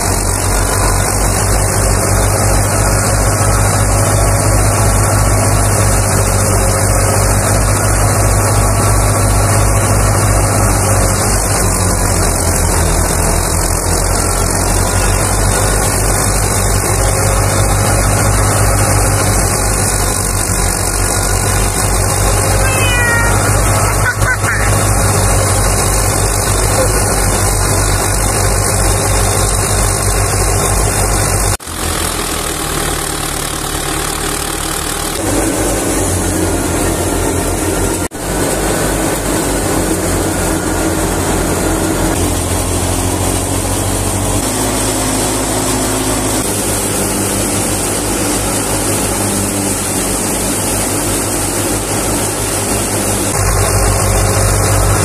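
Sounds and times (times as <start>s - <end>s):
thresher running: 0.0s - 55.0s
tractor diesel engine running: 0.0s - 55.0s.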